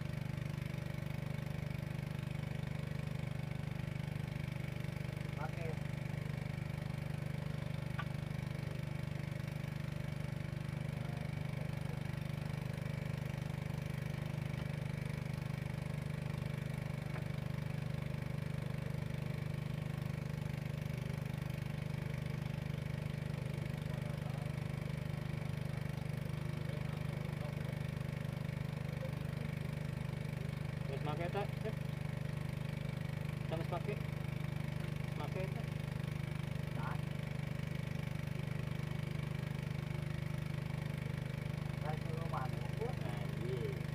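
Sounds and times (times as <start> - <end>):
water pump engines humming: 0.0 - 43.9.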